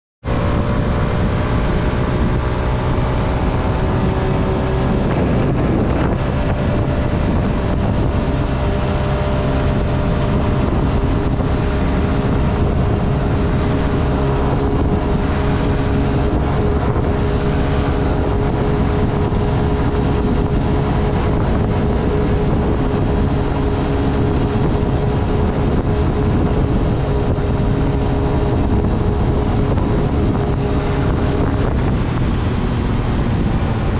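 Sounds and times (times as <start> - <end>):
wind noise on microphone: 0.2 - 33.9.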